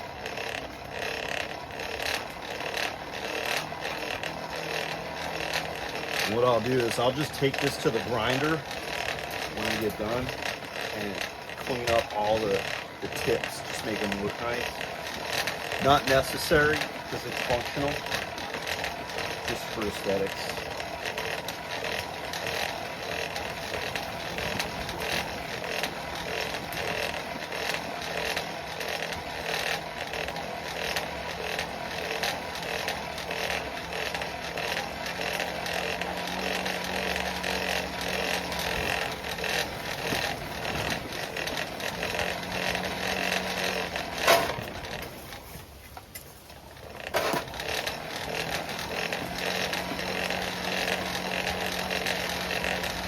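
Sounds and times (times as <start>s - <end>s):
forge blower running: 0.0s - 53.0s.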